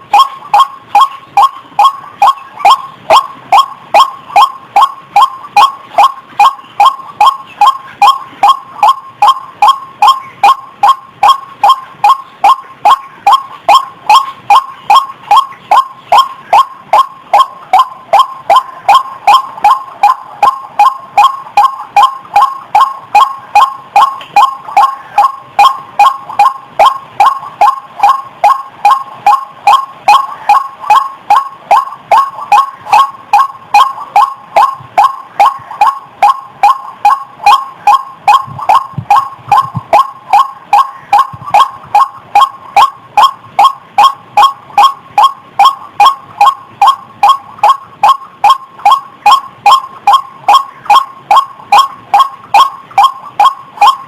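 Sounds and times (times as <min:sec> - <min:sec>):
bird calling loud wak notes: 0:00.0 - 0:54.0.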